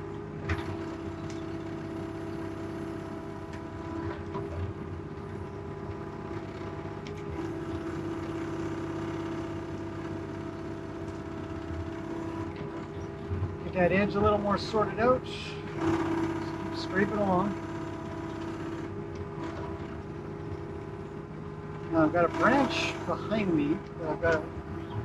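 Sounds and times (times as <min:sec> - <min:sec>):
excavator engine droning: 0:00.0 - 0:25.0.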